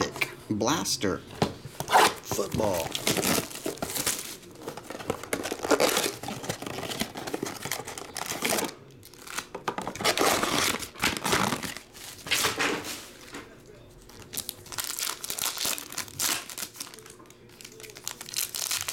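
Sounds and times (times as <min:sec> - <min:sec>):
shrink wrap crinkling and tearing: 0:01.9 - 0:13.3, 0:14.0 - 0:18.9.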